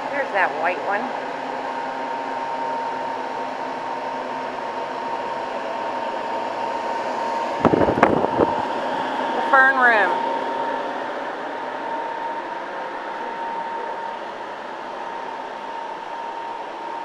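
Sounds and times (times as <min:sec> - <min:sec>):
ventilation fans humming: 0:00.0 - 0:17.0.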